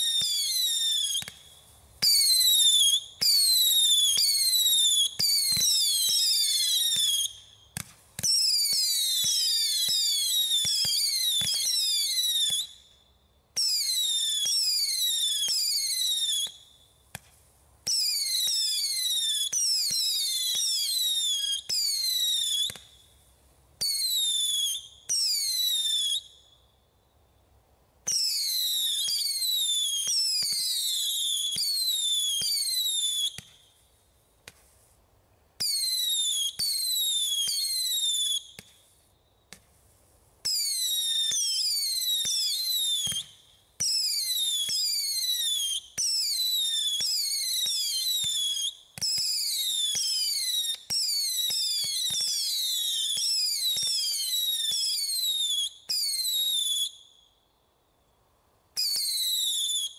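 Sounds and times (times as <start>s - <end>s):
screaming firework missiles whistling: 0.0s - 26.7s, 28.1s - 34.7s, 35.6s - 57.5s, 58.7s - 59.9s.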